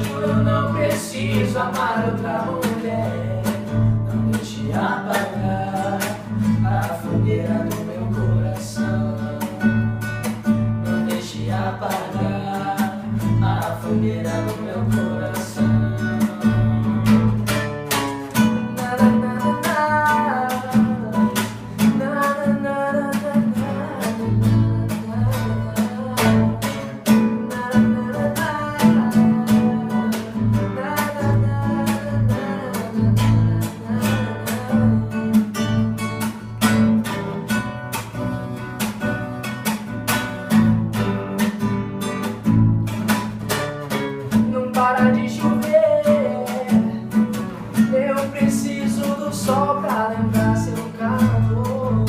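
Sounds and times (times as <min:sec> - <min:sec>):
acoustic guitar strumming: 0:00.0 - 0:52.0
bass: 0:00.0 - 0:52.0.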